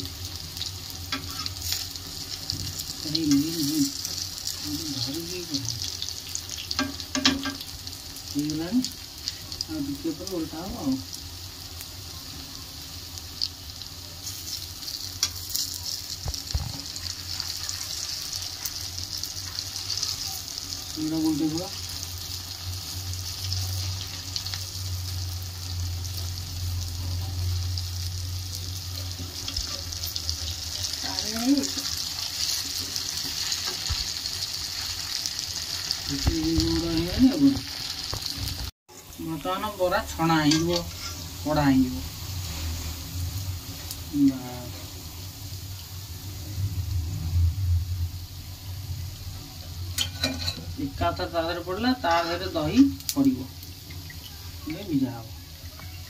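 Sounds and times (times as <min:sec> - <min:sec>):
fritters sizzling in hot oil: 0:00.0 - 0:56.0.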